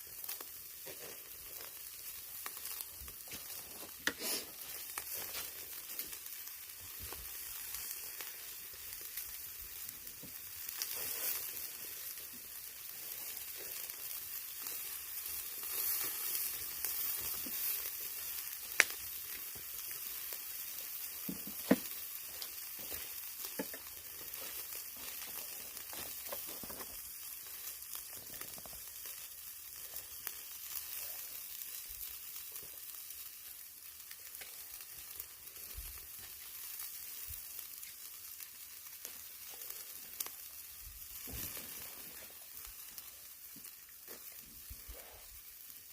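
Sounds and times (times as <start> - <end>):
fat crackling and popping: 0.0 - 45.9
meat sizzling on grill: 0.0 - 45.9.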